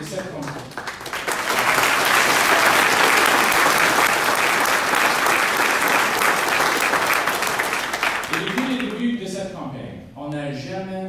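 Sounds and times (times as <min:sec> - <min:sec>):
large audience applauding: 0:00.0 - 0:09.0.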